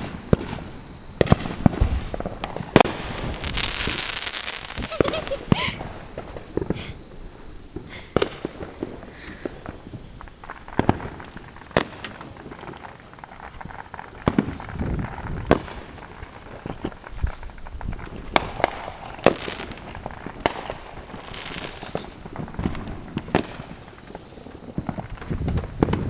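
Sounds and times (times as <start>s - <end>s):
fireworks cracks and pops: 0.0s - 7.1s, 7.7s - 26.0s
fireworks hissing crackle: 0.0s - 26.0s.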